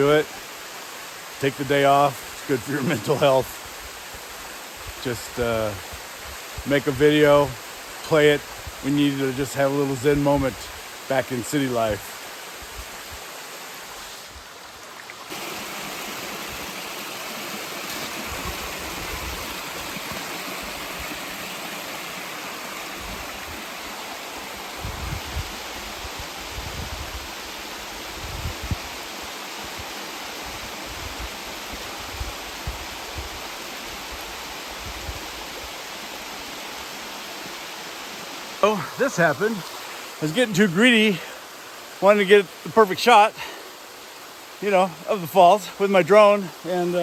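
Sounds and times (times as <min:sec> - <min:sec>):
waterfall and creek rushing: 0:00.0 - 0:47.0.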